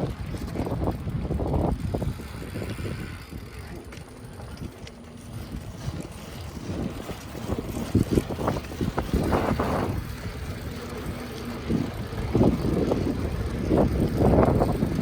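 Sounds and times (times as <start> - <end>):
low rumble of movement: 0.0 - 15.0
wind buffeting microphone: 0.0 - 15.0.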